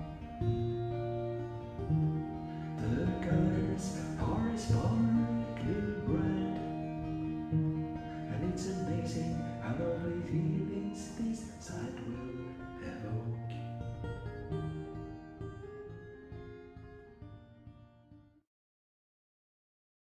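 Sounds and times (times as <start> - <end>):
guitar background music: 0.0 - 18.4.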